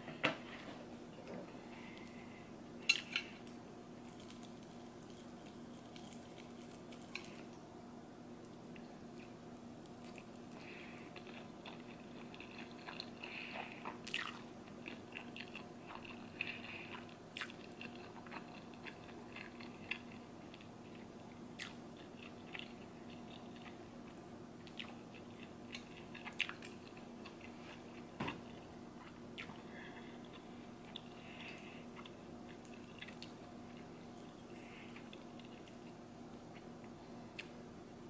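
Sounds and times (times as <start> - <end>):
person chewing noodles: 2.9 - 7.6, 8.5 - 37.6.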